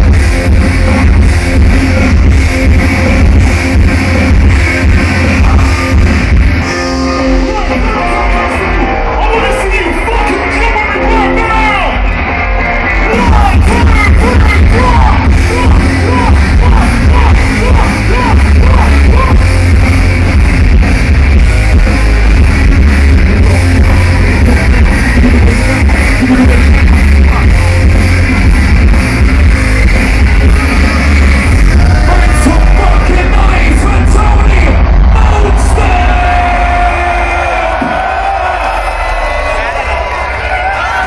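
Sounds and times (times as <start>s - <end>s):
live electronic rock music: 0.0s - 41.0s.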